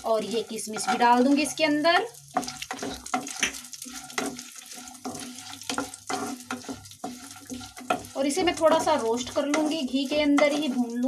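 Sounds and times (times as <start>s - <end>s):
light sizzle: 0.0s - 11.0s
spatula scraping in pan: 0.0s - 11.0s.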